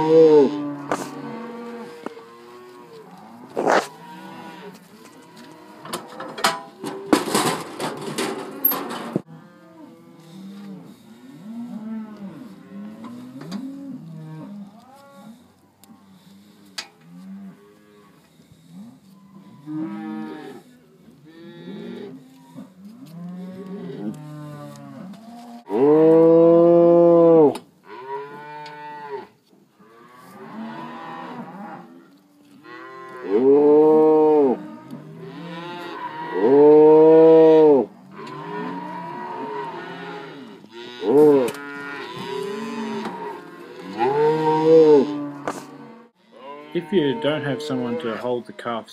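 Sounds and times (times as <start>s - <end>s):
calves mooing and bawling: 0.0s - 7.5s, 8.2s - 48.4s.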